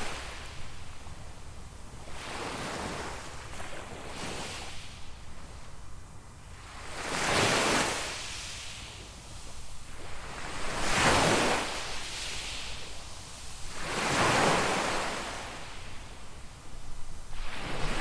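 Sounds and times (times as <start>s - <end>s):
waves breaking on beach: 0.0s - 1.1s, 2.0s - 5.0s, 6.6s - 16.4s, 17.3s - 18.0s.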